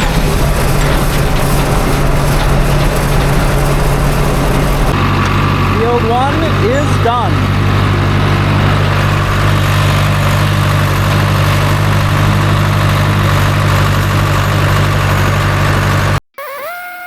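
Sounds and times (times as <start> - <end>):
tractor engine running: 0.0 - 16.2.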